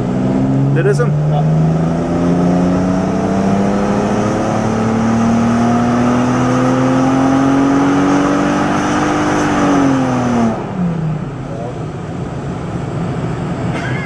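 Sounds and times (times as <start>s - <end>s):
car engine revving at full throttle: 0.0s - 14.0s.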